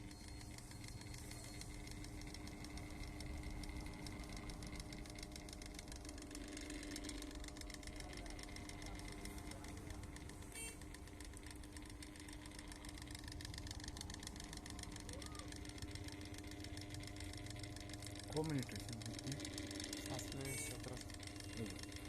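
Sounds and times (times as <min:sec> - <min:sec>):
fast even rattle: 0:00.0 - 0:22.0
table fan motor humming: 0:00.0 - 0:22.0.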